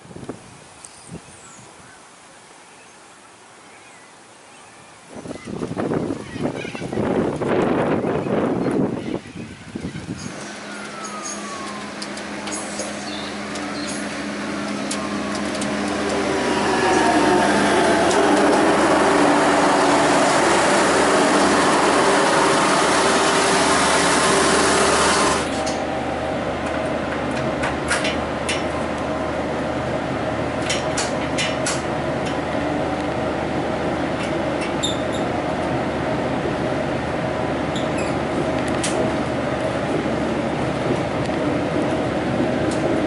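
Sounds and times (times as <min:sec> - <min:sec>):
train interior running noise: 0:00.0 - 0:43.0
diesel railcar passing: 0:05.7 - 0:43.0.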